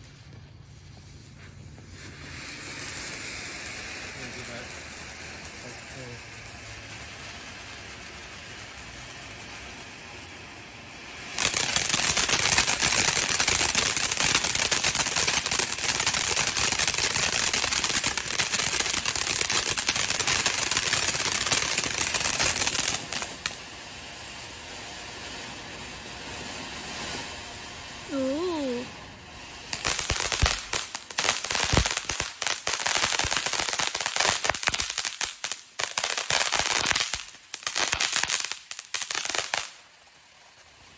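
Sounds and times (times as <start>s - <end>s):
firework fountain hissing: 0.0s - 40.9s.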